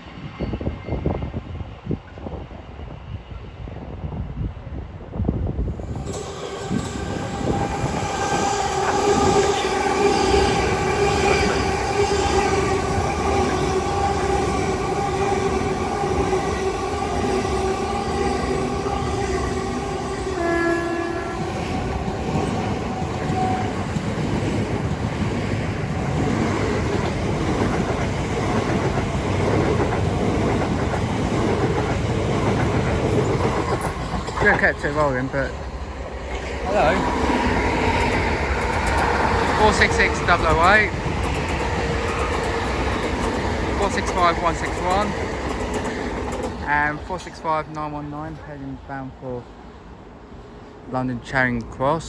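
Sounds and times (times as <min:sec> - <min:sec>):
wheels rumbling on rail: 0:00.0 - 0:52.0
train multi-note whine: 0:05.5 - 0:51.2.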